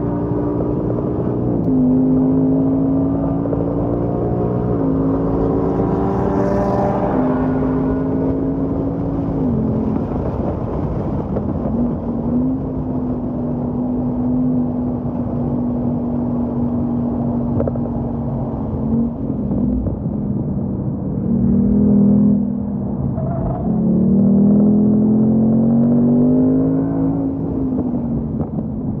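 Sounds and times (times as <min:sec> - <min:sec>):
car engine at speed: 0:00.0 - 0:29.0
road and wind noise: 0:00.0 - 0:29.0.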